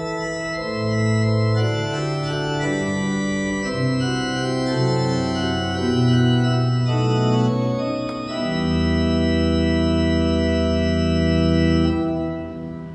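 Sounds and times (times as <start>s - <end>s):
electronic organ chords: 0.0s - 12.9s.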